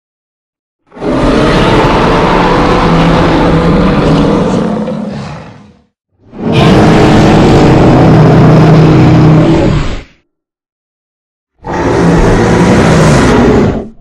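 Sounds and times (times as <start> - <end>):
deep dinosaur roar: 0.8 - 10.1, 11.6 - 14.0.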